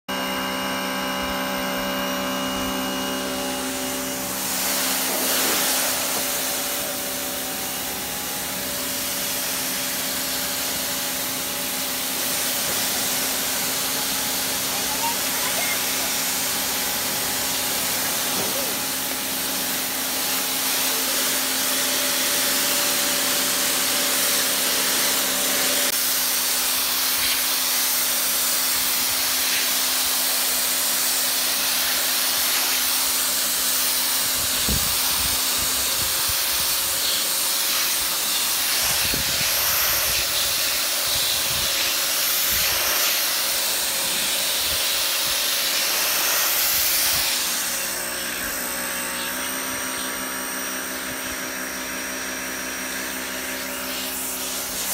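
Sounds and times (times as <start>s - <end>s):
pressure washer motor hum: 0.1s - 54.9s
water jet hissing on stone: 3.2s - 54.9s.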